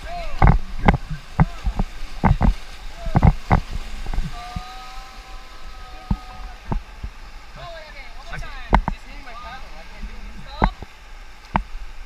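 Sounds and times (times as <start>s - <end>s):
paddles splashing water: 0.0s - 12.0s.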